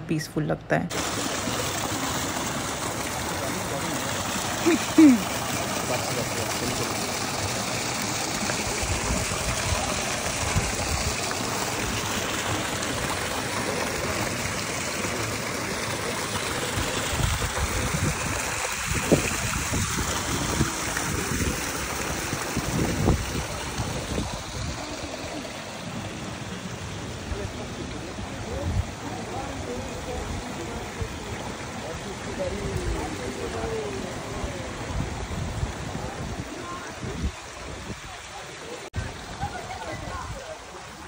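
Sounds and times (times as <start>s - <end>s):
flowing water rushing: 0.9s - 41.0s.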